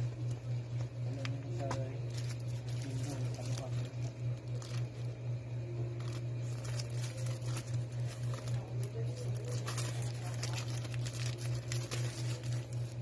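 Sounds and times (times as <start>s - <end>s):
steady low hum: 0.0s - 13.0s
plastic packaging crinkling: 1.1s - 13.0s.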